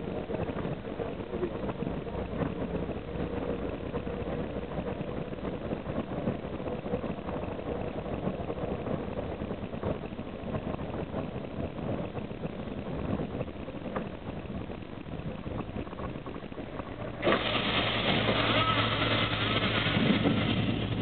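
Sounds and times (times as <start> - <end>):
bus engine drone: 0.0 - 21.0
road and body rattle: 0.0 - 21.0.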